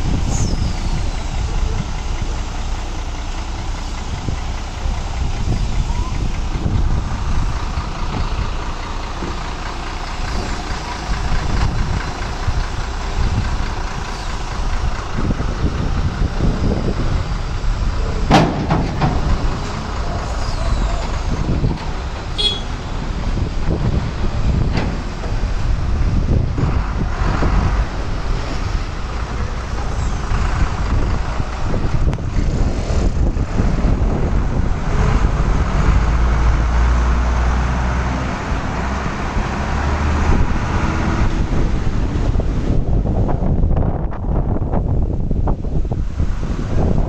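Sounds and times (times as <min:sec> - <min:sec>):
diesel truck engine rumbling: 0:00.0 - 0:47.0.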